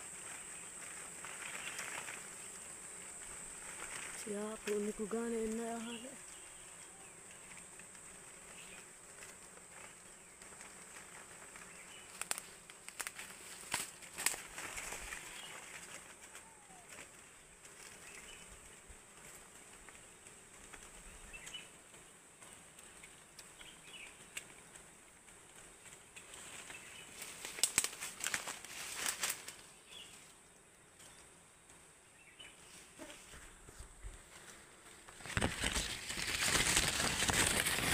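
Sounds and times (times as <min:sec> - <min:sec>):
leaves and twigs rustling: 0:00.0 - 0:37.9.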